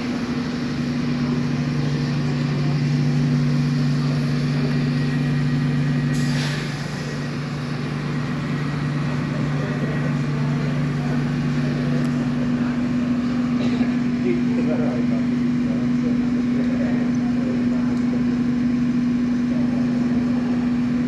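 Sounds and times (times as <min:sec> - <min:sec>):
train equipment humming: 0:00.0 - 0:21.0.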